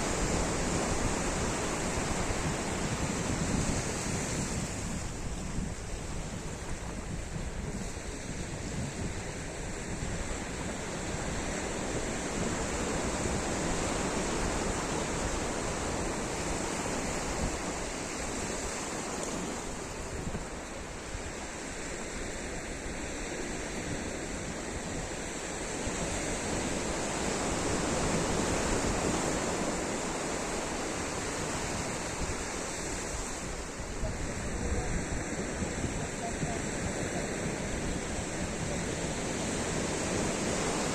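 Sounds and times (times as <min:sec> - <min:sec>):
sea surf washing onto beach: 0:00.0 - 0:40.9.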